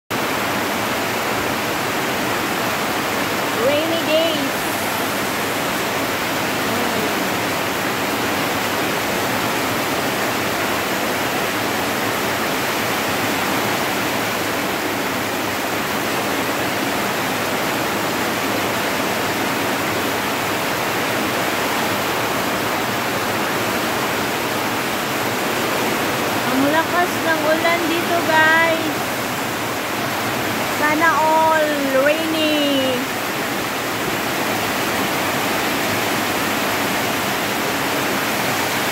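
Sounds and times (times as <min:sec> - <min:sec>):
heavy rain: 0:00.1 - 0:38.9.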